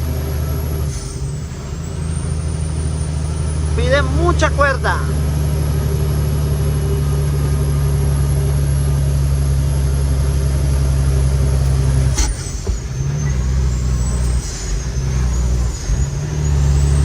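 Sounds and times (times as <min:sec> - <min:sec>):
truck diesel engine pulling hard: 0:00.0 - 0:17.0.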